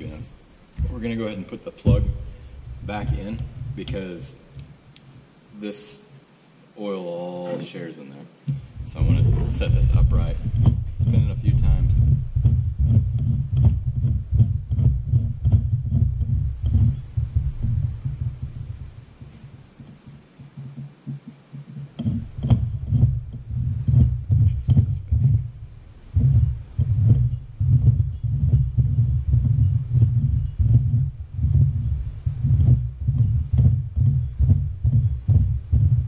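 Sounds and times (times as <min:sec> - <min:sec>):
gearbox rhythmic rumble: 0:00.0 - 0:04.8, 0:08.5 - 0:20.0, 0:21.9 - 0:36.0.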